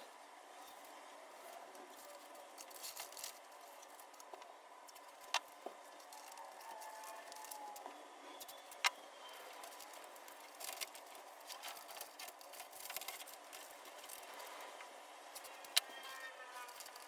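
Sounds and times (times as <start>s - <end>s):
low steady hiss: 0.0s - 6.3s, 7.8s - 17.0s.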